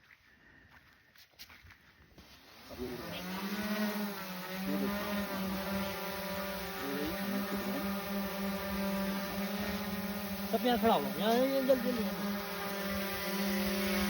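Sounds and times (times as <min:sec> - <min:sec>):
drone propellers buzzing: 0:02.2 - 0:14.0.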